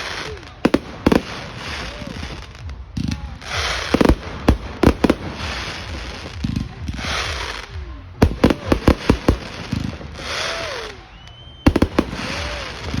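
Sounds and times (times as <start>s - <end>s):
fireworks bangs: 0.0s - 13.0s
fireworks hissing crackle: 0.0s - 13.0s.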